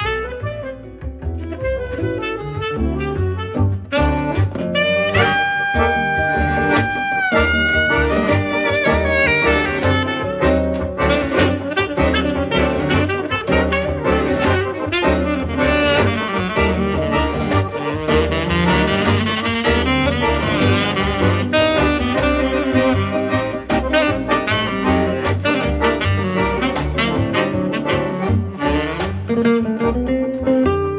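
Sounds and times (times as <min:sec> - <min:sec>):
swing jazz with saxophone and brass: 0:00.0 - 0:30.9.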